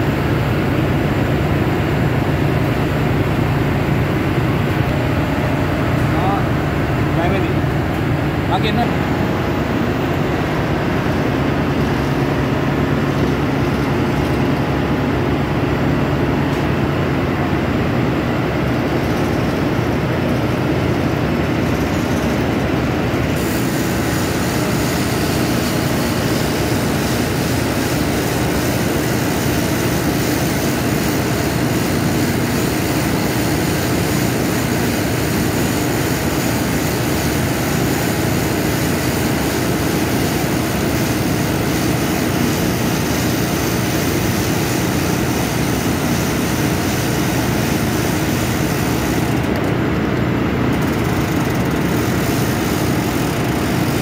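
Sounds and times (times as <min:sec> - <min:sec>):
heavy machinery humming: 0:00.0 - 0:54.0.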